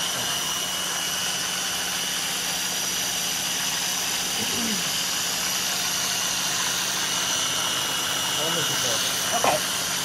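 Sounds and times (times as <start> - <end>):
food processor motor running: 0.0 - 10.0.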